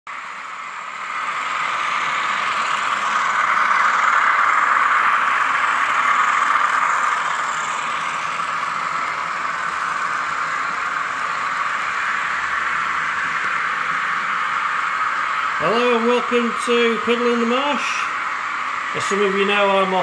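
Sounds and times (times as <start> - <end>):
model train diesel engine sound: 0.1 - 20.0.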